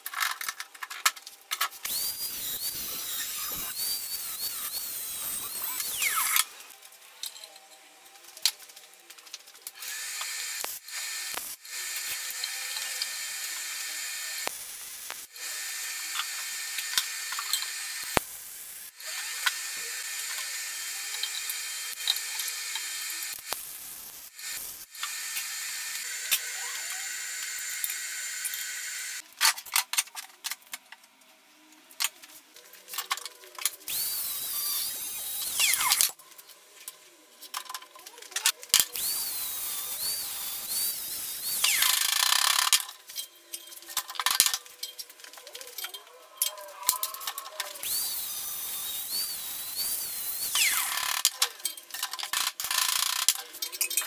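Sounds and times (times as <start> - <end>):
metal tool whirring: 1.5 - 29.2, 32.9 - 36.4, 37.5 - 54.0.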